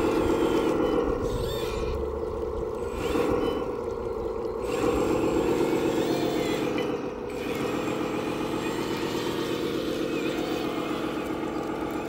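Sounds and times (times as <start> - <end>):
toy truck driving over gravel: 0.0 - 12.0.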